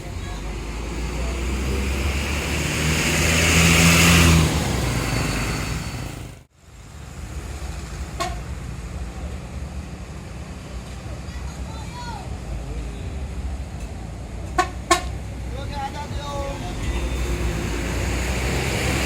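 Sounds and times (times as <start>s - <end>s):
bus passing close by: 0.0s - 19.0s
steady road traffic: 0.0s - 19.0s.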